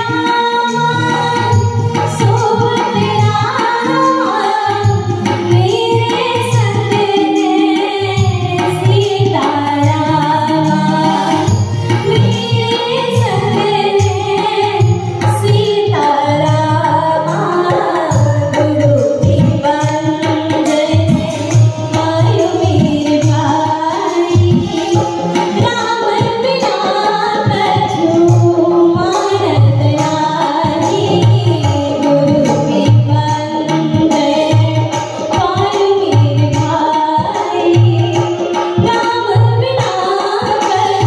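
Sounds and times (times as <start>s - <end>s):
keyboard: 0.0s - 41.0s
person singing devotional song: 0.0s - 41.0s
tabla: 0.0s - 41.0s.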